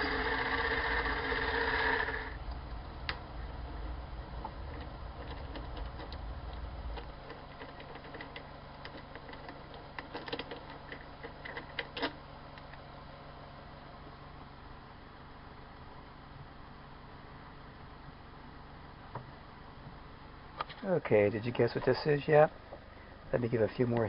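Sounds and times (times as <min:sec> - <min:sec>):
machine low rumble: 0:00.0 - 0:24.0
steady low hum: 0:00.0 - 0:24.0.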